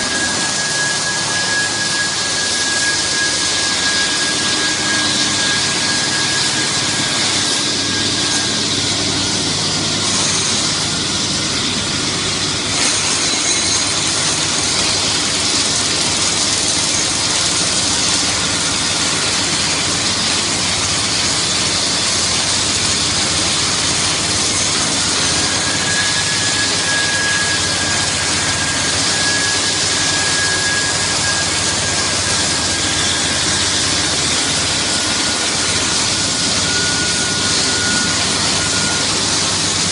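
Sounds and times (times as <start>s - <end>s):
car wash rushing noise: 0.0s - 39.9s
faint high whine: 0.0s - 39.9s.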